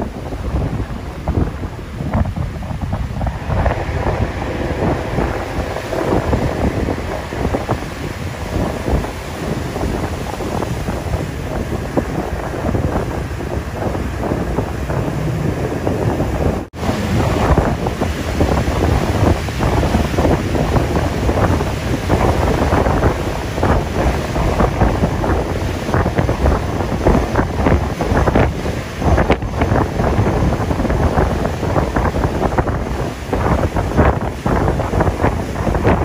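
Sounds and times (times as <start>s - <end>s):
churning water of boat wake: 0.0s - 36.0s
wind buffeting microphone: 0.0s - 36.0s.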